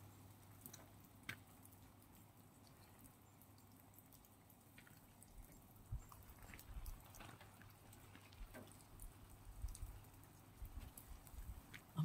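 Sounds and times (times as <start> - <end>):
light ticks: 0.5 - 11.9.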